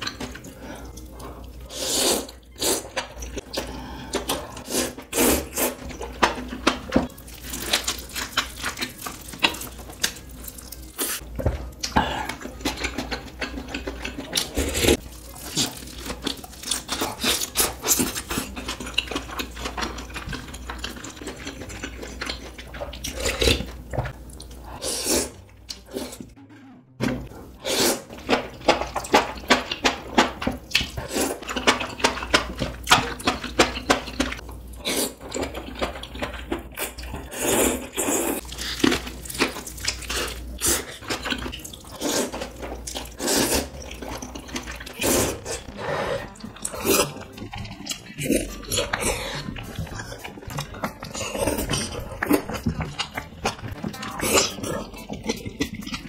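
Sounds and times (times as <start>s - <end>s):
wet chewing and slurping: 0.0s - 26.4s, 27.2s - 56.0s.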